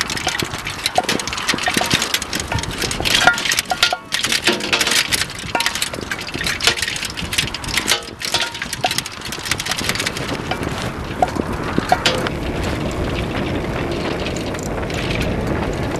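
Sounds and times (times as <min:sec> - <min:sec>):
cups clattering in wind: 0:00.0 - 0:15.9
wind on microphone: 0:00.0 - 0:15.9.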